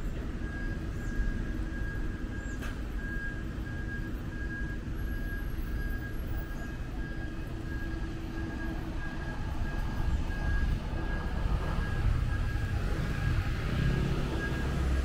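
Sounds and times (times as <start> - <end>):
city traffic rumbling: 0.0 - 15.0.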